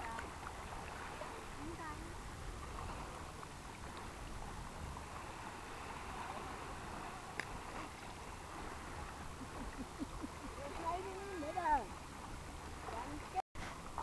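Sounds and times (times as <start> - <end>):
water sloshing and lapping: 0.0 - 14.0.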